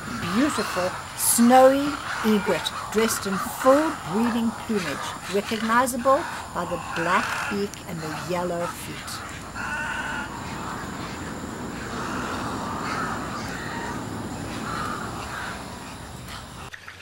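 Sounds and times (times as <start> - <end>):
birds giving rough calls: 0.0 - 16.7
steady background hiss: 0.0 - 17.0.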